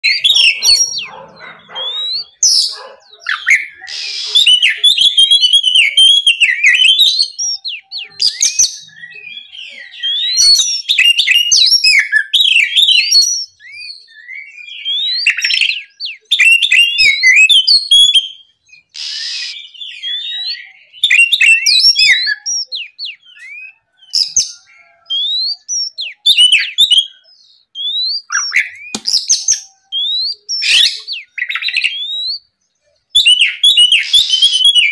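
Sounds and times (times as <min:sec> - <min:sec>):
bird singing whistled phrases: 0:00.0 - 0:34.9.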